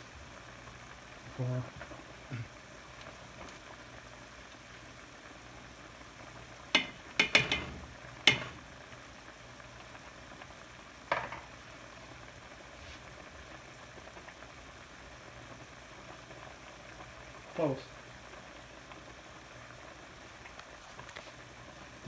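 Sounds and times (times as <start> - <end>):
stock bubbling in a pan: 0.0 - 22.0.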